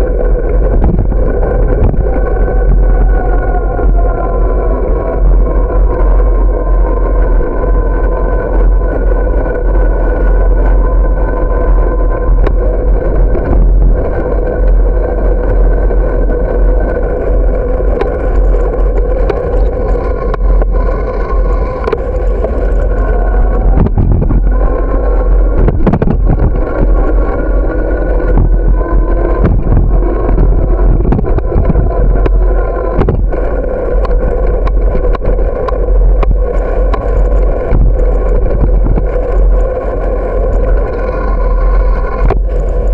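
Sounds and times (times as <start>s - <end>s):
bicycle tyre and frame noise: 0.0s - 42.9s
wind rumbling on microphone: 0.0s - 42.9s.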